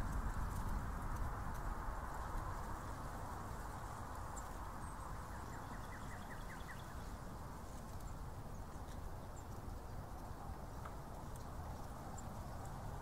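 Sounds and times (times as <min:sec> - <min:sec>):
highway traffic hiss and rumble: 0:00.0 - 0:13.0.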